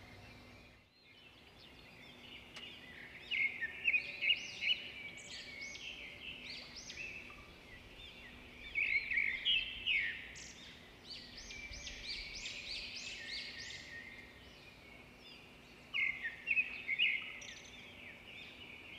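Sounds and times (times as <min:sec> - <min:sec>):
birds chirping and singing: 0:00.0 - 0:18.9.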